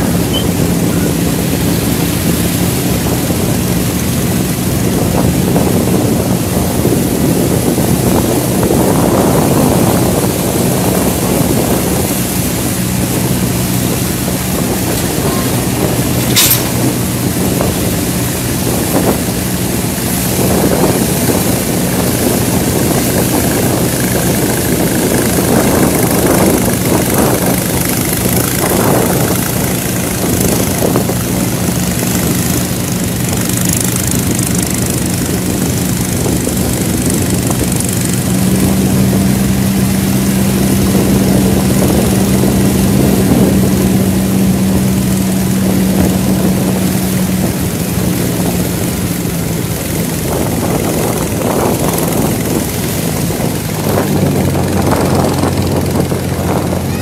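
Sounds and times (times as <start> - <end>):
motorboat engine running: 0.0 - 57.0
rush of wind and water: 0.0 - 57.0.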